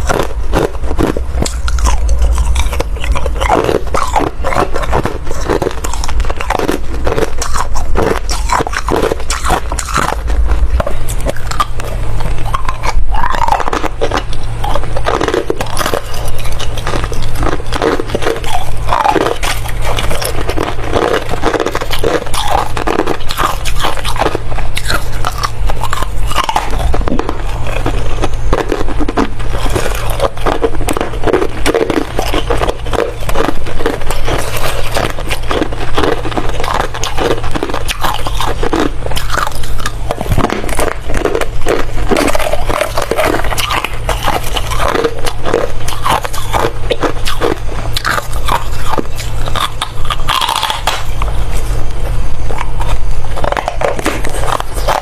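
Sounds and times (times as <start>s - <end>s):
ice crunched and chewed: 0.0s - 55.0s
steady low hum: 0.0s - 55.0s.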